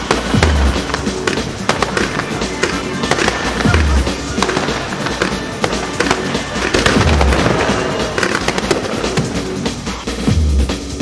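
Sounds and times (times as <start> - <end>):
fireworks crackling and popping: 0.0 - 10.3.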